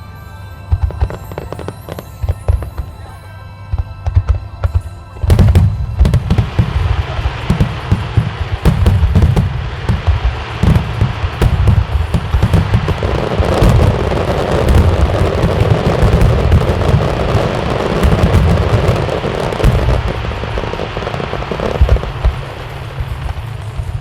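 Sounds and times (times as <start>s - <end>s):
fireworks crackling: 0.0s - 24.0s
fireworks booming: 0.7s - 3.0s, 3.8s - 24.0s
loud fireworks bangs: 0.7s - 24.0s.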